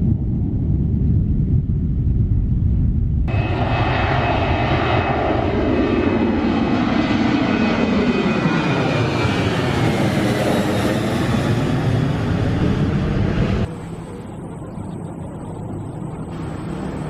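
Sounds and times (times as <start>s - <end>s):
jet engines roaring with whine: 0.0s - 17.0s
wind rumble on microphone: 0.0s - 17.0s.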